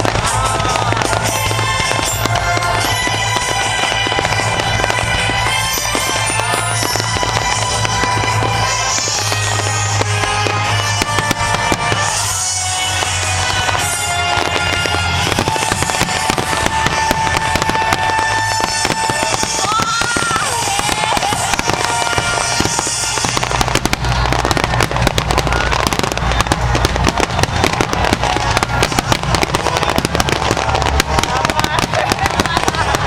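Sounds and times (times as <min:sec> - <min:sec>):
fireworks booming explosions: 0:00.0 - 0:33.0
fireworks crackling and popping: 0:00.0 - 0:33.0
music playing: 0:00.0 - 0:33.0.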